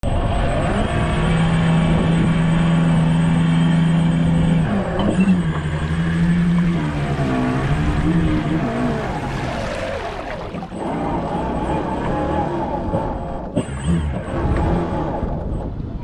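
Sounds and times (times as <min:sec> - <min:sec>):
model boat motor running: 0:00.1 - 0:16.0.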